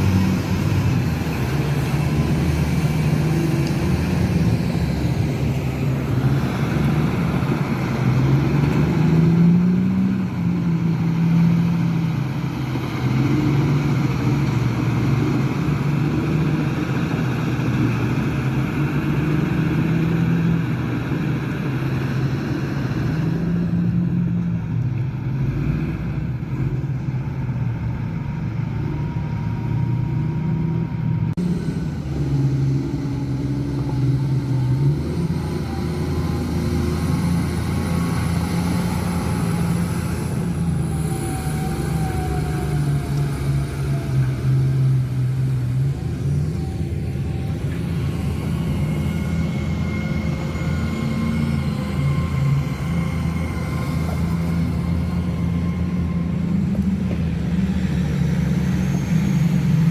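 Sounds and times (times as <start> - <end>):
heavy machine diesel engines: 0.0 - 59.9.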